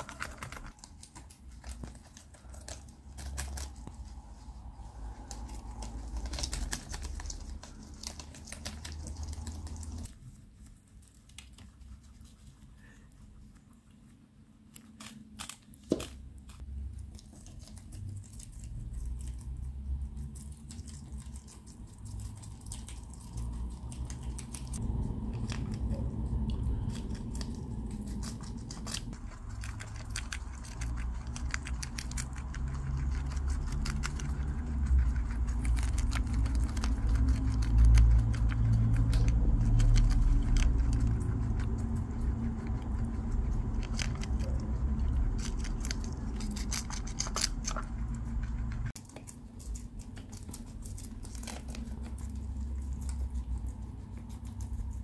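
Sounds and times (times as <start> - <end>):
low rumble: 0.0 - 10.7, 11.7 - 55.0
guinea pigs munching lettuce: 0.0 - 55.0.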